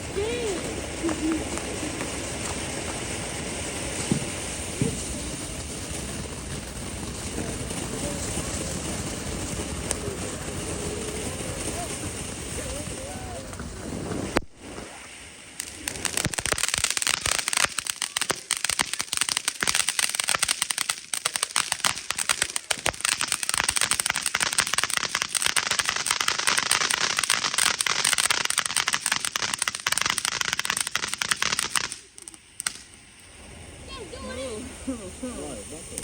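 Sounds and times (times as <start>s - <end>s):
firecrackers popping and crackling: 0.0s - 36.0s.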